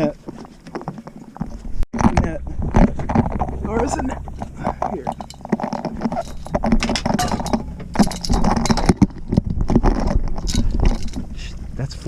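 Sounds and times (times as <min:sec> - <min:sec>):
fishing gear rattling and clinking: 0:00.0 - 0:11.8.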